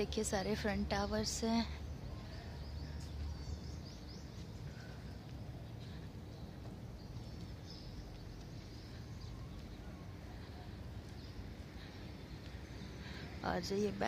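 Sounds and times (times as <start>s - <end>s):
faint bird chirps: 1.8s - 13.4s.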